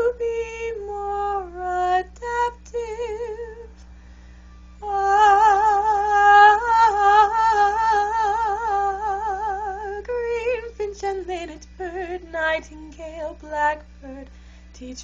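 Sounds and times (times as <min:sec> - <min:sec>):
woman singing soprano: 0:00.0 - 0:03.7, 0:04.8 - 0:15.0.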